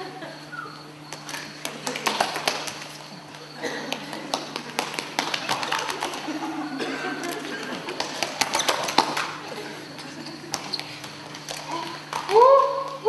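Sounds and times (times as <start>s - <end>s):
shoes tapping on stage floor: 1.1s - 6.6s, 7.2s - 13.0s.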